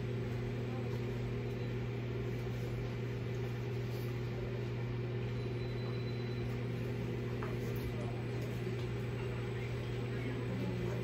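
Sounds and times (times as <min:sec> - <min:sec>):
low mechanical hum with tones: 0:00.0 - 0:11.0.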